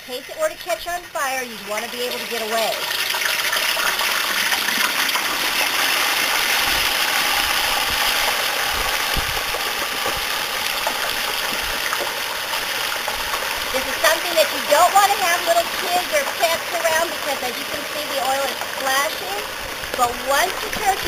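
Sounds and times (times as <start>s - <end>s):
oil bubbling and sizzling: 0.0s - 21.0s
oil splashing: 0.0s - 21.0s.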